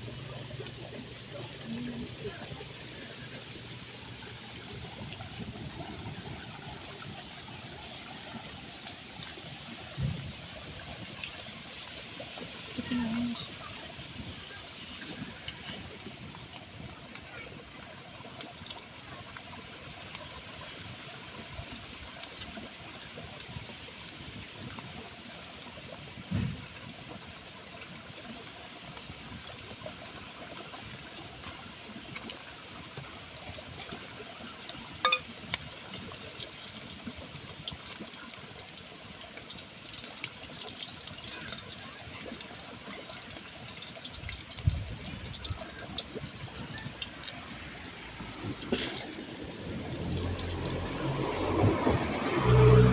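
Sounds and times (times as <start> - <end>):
trickling water: 0.0 - 52.9.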